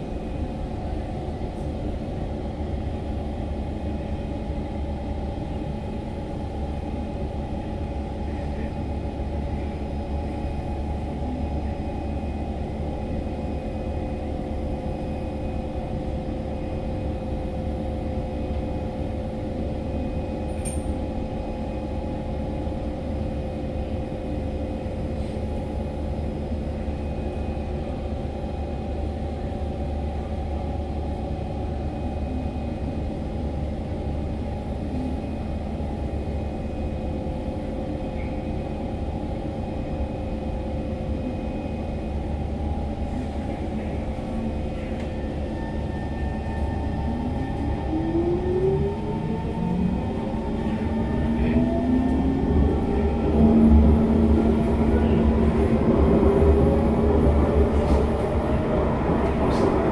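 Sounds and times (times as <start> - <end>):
train equipment humming: 0.0 - 59.9.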